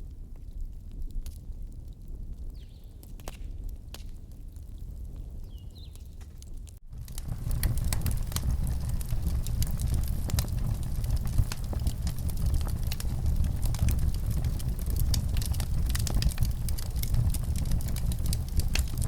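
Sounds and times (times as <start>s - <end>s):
low rumble of fire: 0.0s - 19.0s
burning wood popping: 0.3s - 19.0s.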